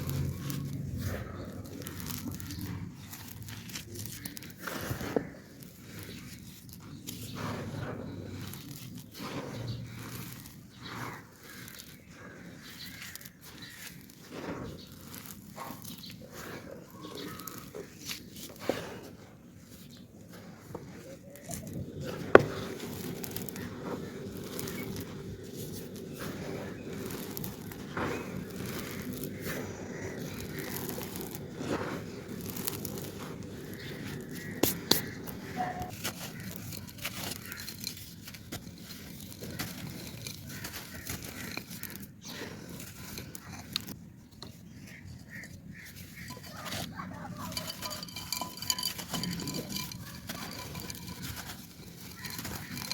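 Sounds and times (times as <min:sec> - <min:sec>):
clay pot pieces crunching: 0:00.0 - 0:52.9.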